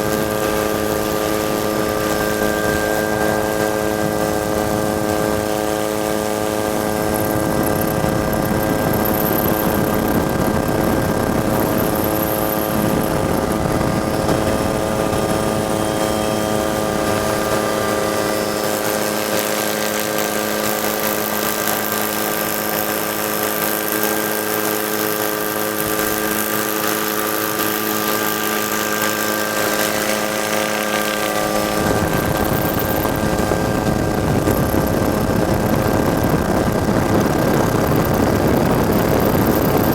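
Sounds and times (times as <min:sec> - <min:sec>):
helicopter engine and rotor hum: 0:00.0 - 0:39.9.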